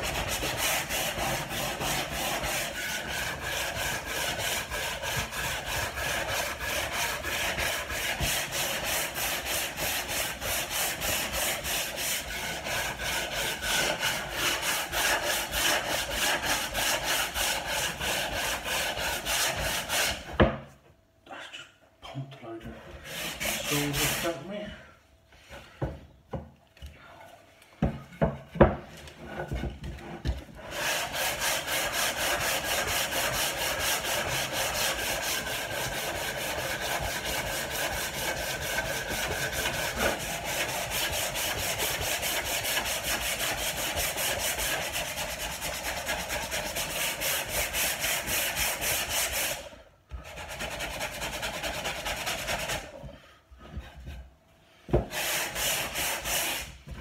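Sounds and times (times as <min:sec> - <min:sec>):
sandpaper rubbing on wood: 0:00.0 - 0:20.3, 0:23.1 - 0:24.5, 0:30.6 - 0:53.0, 0:55.1 - 0:56.8.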